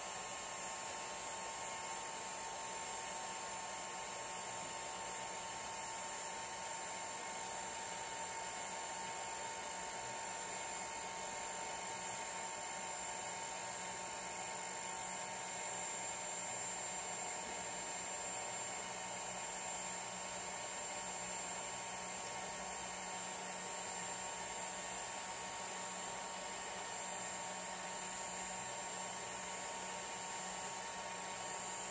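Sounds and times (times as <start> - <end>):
hot-air gun hissing with whine: 0.0 - 31.9.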